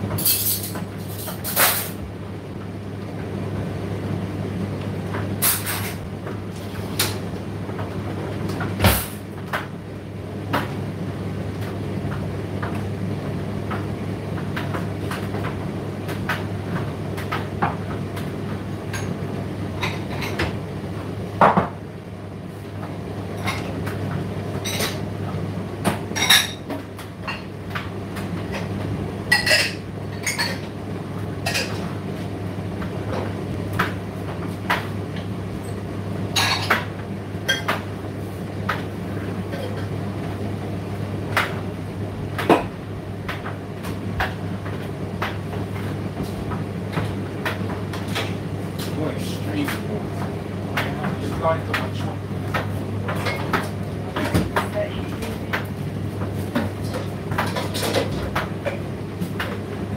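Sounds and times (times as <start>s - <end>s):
tumble dryer hum: 2.0s - 59.9s.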